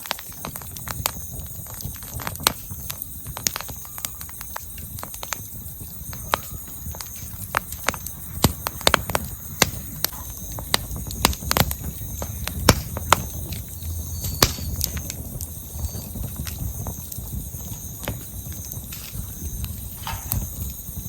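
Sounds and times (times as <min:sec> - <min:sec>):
campfire crackling and popping: 0:00.0 - 0:21.0
low rumble of flame: 0:00.0 - 0:21.0.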